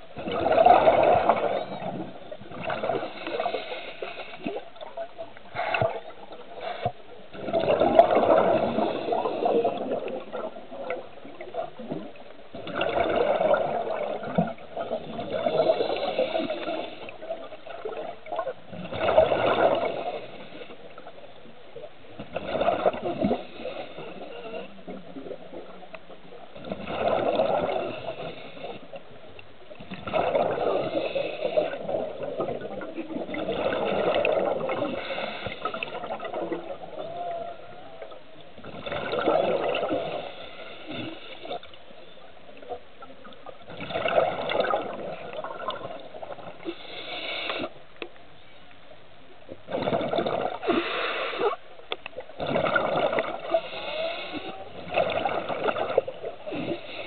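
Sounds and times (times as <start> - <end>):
rush of water and bubbles: 0.0 - 48.2, 49.0 - 57.0
muffled underwater noise: 0.0 - 57.0.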